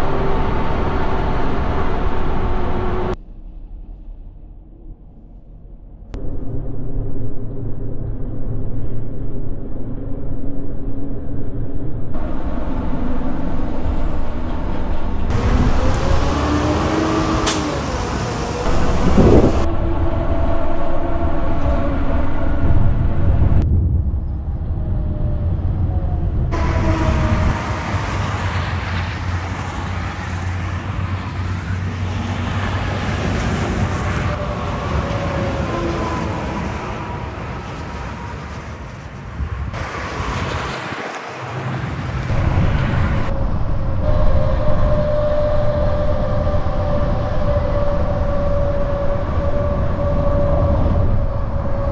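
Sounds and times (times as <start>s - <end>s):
humming tire whine: 0.0s - 51.9s
tire noise on concrete: 0.0s - 51.9s
truck engine rumble: 0.0s - 51.9s.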